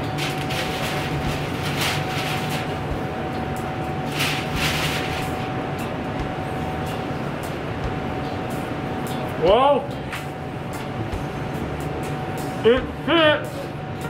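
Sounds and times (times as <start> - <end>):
constant thin whine: 0.0 - 14.0
restaurant background hum: 0.0 - 14.0.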